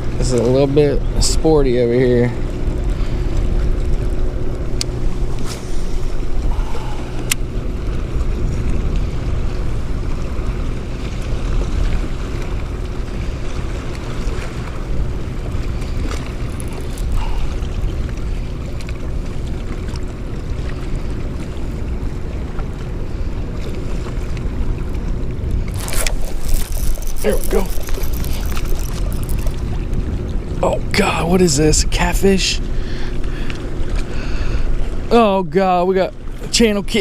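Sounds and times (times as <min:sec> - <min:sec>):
wind rumbling on microphone: 0:00.0 - 0:30.9
water lapping: 0:00.0 - 0:37.0.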